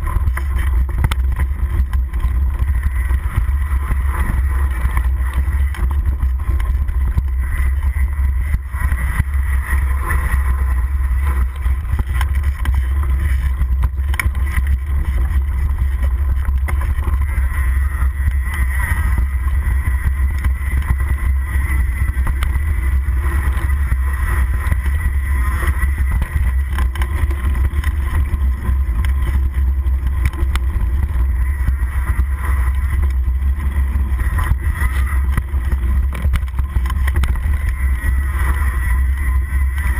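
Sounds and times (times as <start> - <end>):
bike tyre and frame rumble: 0.0 - 39.9
rattle from rough ground: 0.0 - 39.9
wind on microphone: 0.0 - 39.9.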